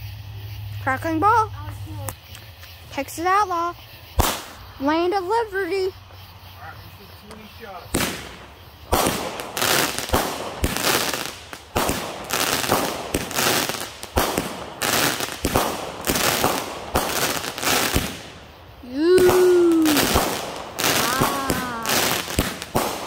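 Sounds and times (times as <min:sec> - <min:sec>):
fireworks banging: 0:00.4 - 0:23.0.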